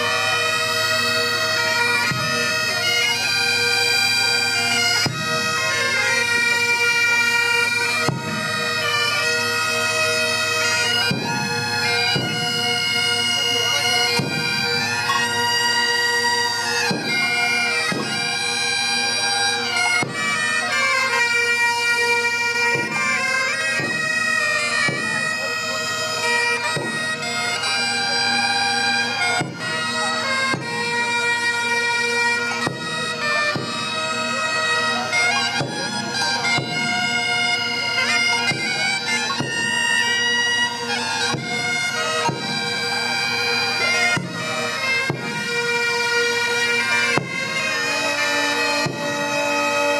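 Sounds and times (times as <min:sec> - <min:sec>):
bagpipes playing a tune: 0:00.0 - 0:49.9.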